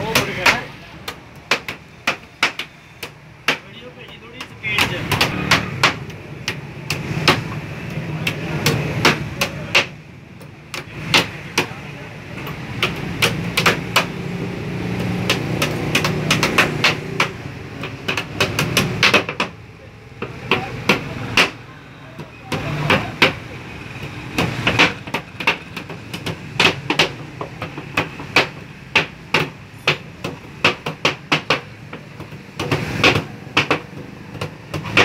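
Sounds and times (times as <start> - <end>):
hammers driving nails into wood: 0.0 - 35.0.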